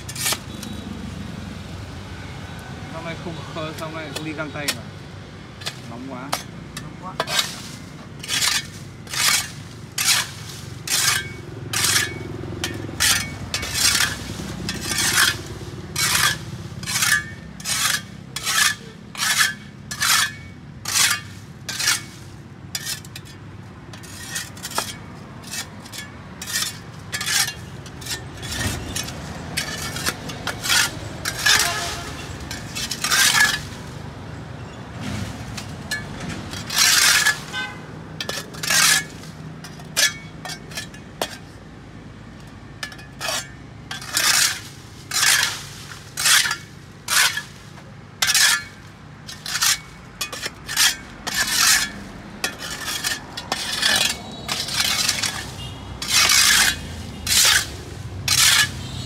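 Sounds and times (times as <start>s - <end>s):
hand tool scraping sidewalk: 0.0s - 1.4s, 2.9s - 59.0s.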